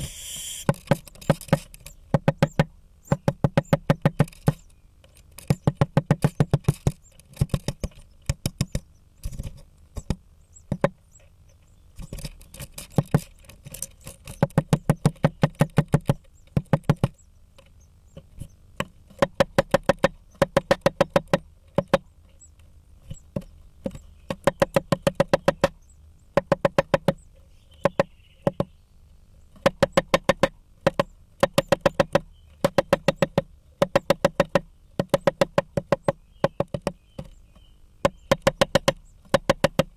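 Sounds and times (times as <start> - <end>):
woodpecker hammering on wood: 0.0 - 4.8, 5.4 - 9.0, 9.9 - 11.3, 12.0 - 28.8, 29.5 - 39.9.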